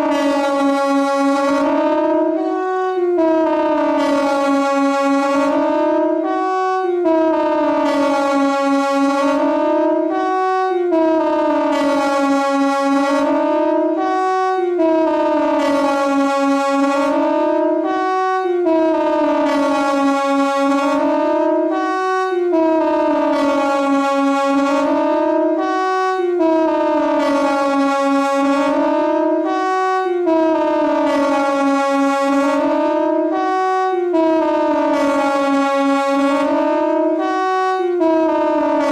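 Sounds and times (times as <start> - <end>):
wailing siren: 0.0 - 38.9.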